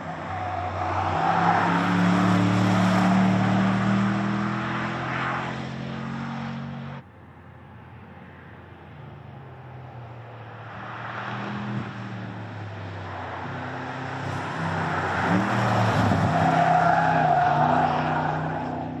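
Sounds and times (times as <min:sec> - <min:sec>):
car engine on a track: 0:00.0 - 0:19.0
tyres on asphalt: 0:00.0 - 0:19.0.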